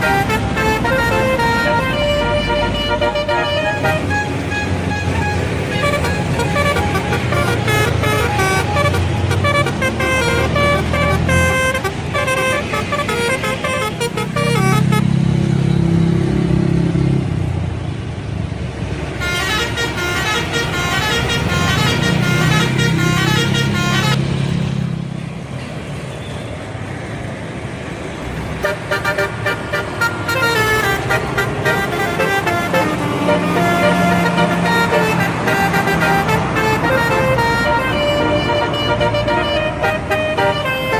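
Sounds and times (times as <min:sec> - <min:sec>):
bus horns playing jingly melodies: 0:00.0 - 0:15.2, 0:19.1 - 0:24.6, 0:28.6 - 0:40.9
traffic noise: 0:00.0 - 0:40.9.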